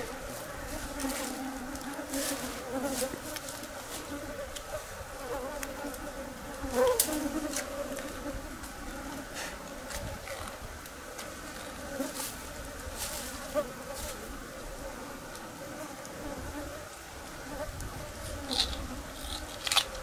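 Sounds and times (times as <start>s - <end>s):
flying insects buzzing: 0.0s - 20.0s.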